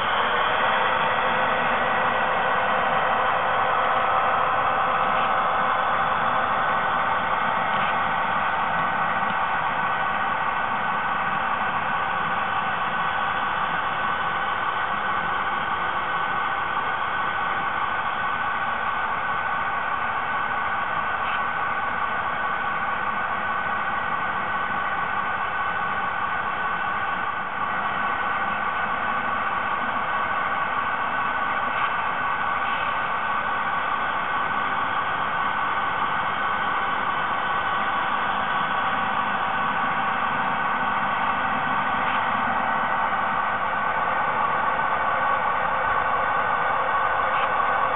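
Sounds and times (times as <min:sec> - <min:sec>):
model train diesel locomotive drone: 0:00.0 - 0:47.9.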